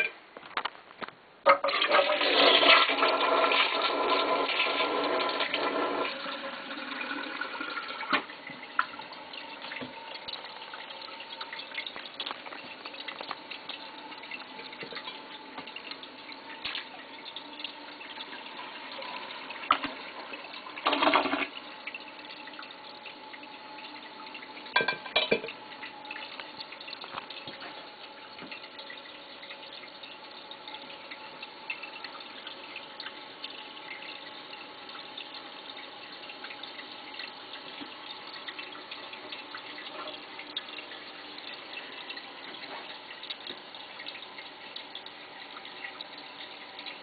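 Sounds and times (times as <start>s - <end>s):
toilet flushing: 1.5s - 47.0s.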